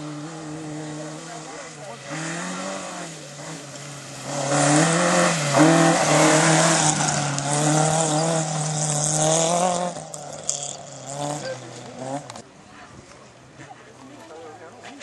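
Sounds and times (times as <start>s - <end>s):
rally car engine passing: 0.0s - 12.5s.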